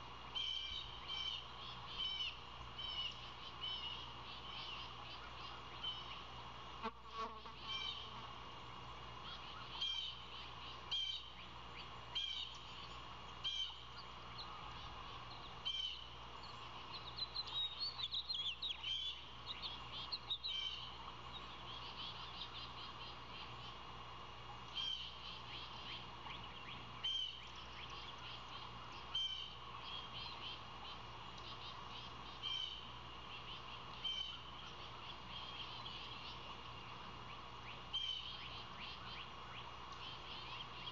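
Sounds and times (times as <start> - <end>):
steady hum: 0.0 - 40.9
birds chirping: 7.6 - 40.9.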